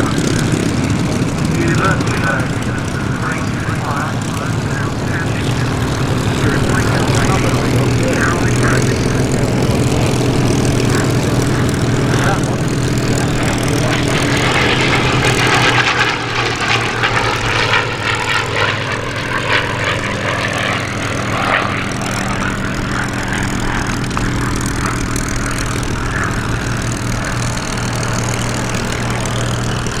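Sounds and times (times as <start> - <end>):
propeller aircraft engines droning: 0.0 - 30.0.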